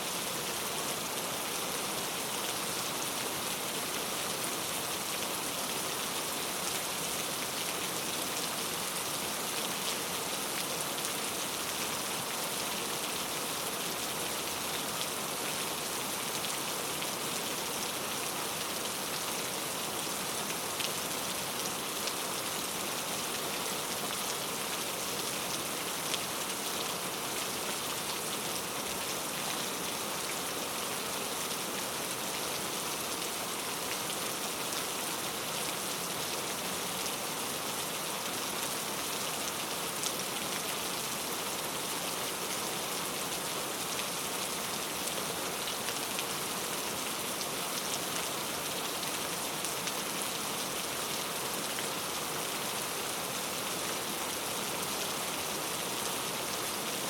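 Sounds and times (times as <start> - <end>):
rain falling on foliage: 0.0 - 57.0.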